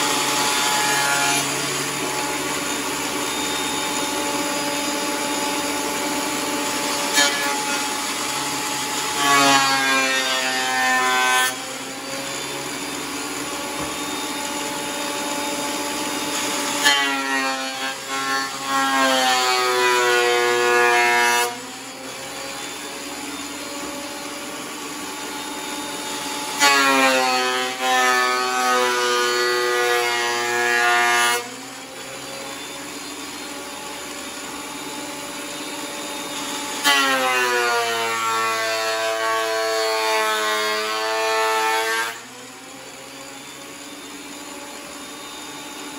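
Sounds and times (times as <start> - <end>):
planer cutting board: 0.0 - 45.9
thickness planer running: 0.0 - 45.9.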